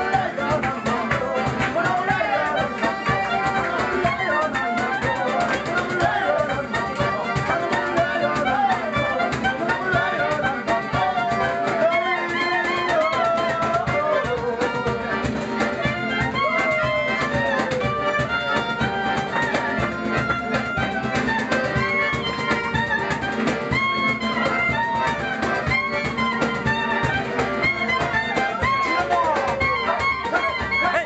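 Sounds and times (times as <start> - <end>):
accordion chords: 0.0 - 31.0
clarinet melody: 0.0 - 31.0
strummed acoustic guitar: 0.0 - 31.0.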